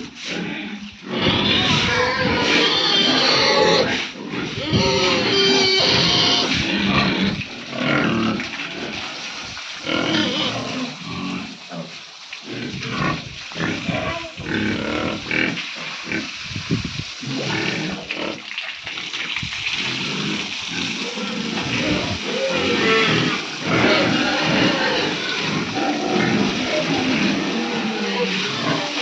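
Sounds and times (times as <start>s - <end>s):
pigs calling: 0.0s - 9.2s, 9.8s - 16.4s, 17.2s - 29.0s.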